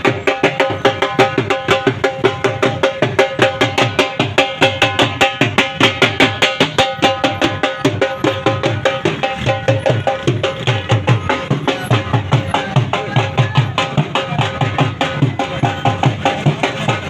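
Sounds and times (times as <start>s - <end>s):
percussion-led music: 0.0s - 17.0s.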